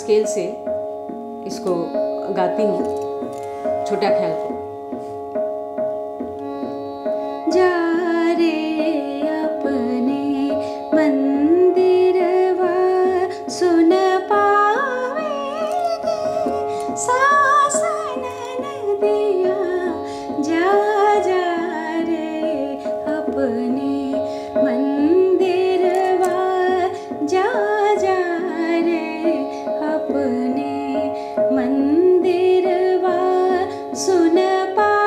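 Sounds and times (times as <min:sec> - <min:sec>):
tanpura drone: 0:00.0 - 0:04.9, 0:05.5 - 0:34.8
tabla playing: 0:00.0 - 0:35.0
woman singing: 0:01.5 - 0:03.1, 0:07.4 - 0:35.0.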